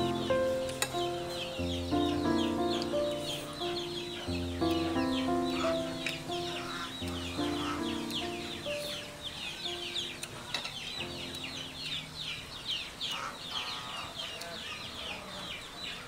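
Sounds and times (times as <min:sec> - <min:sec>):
soft background music: 0:00.0 - 0:13.2
chicks peeping: 0:00.0 - 0:16.0.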